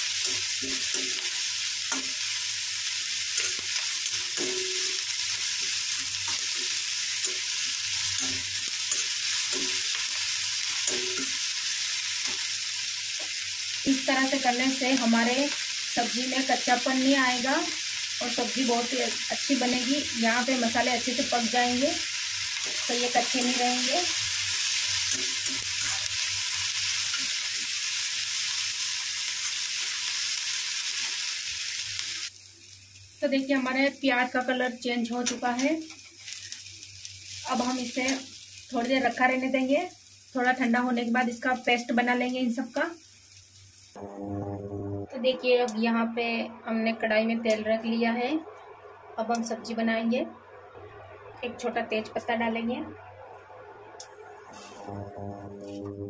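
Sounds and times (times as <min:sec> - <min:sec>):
vegetables sizzling in hot oil: 0:00.0 - 0:44.0, 0:54.0 - 0:56.0.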